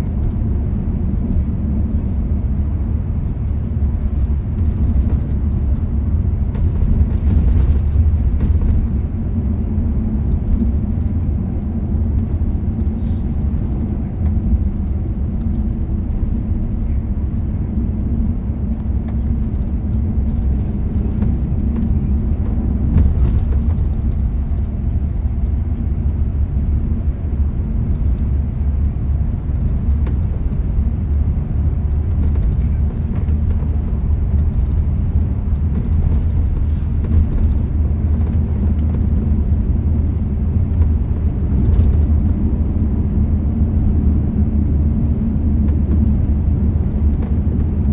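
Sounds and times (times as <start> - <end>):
car driving on road: 0.0 - 47.9.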